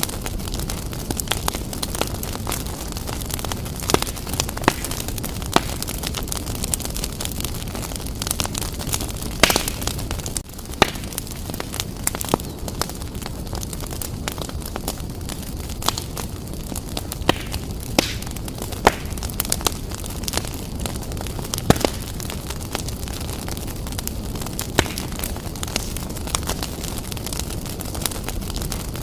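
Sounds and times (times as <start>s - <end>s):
fire crackles and pops: 0.0s - 29.0s
wood fire rumbling: 0.0s - 29.0s.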